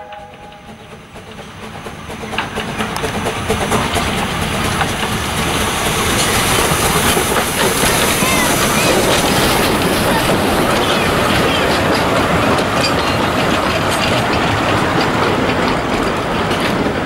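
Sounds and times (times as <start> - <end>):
rail clicks: 0.0 - 17.0
train wheels rumbling on track: 0.0 - 17.0.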